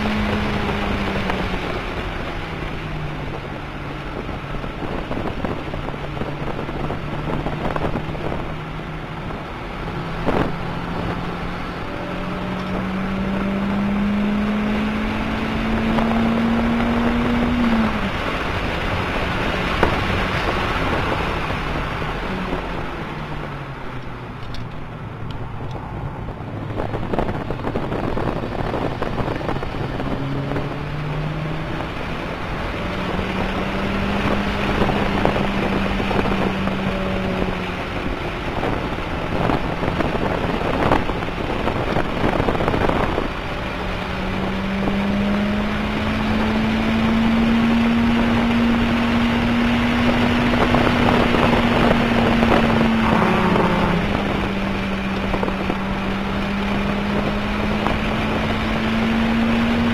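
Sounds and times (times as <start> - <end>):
car engine: 0.0 - 59.9
wind noise: 0.0 - 59.9.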